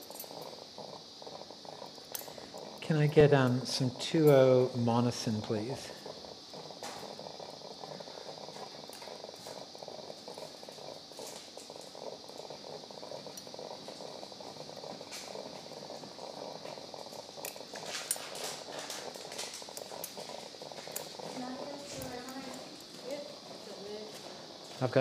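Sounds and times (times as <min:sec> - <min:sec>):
room hum and hiss: 0:00.0 - 0:25.0.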